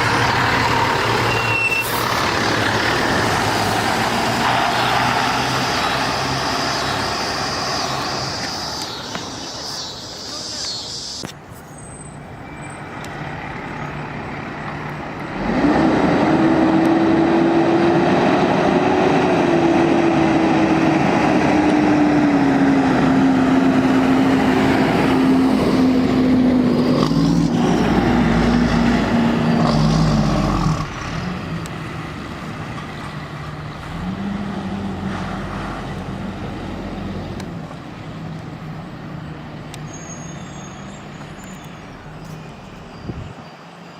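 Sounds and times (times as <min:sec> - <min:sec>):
fire truck engine passing: 0:00.0 - 0:43.3.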